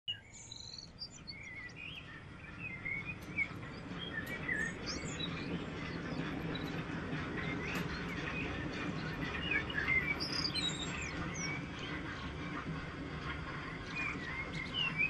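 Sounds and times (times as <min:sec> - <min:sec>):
birds chirping and singing: 0:00.1 - 0:15.0.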